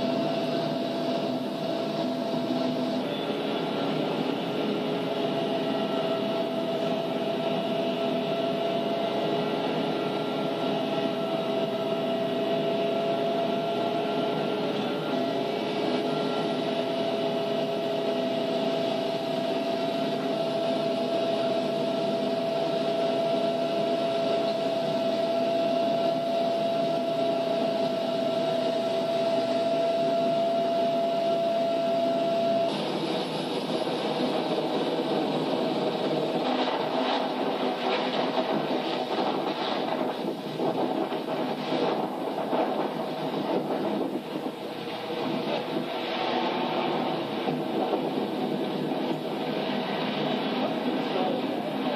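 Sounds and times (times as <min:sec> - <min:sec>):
helicopter engine and rotor drone: 0:00.0 - 0:51.9
high whine: 0:00.0 - 0:51.9.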